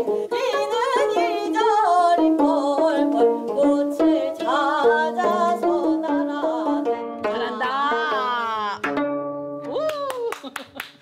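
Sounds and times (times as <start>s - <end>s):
women singing folk song: 0.0s - 9.0s
plucked zither notes: 0.0s - 9.8s.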